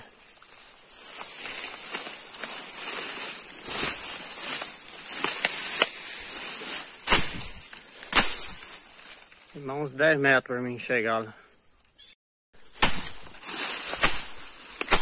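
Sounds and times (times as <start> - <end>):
grass rustling as person walks: 0.0 - 11.0, 12.6 - 15.0.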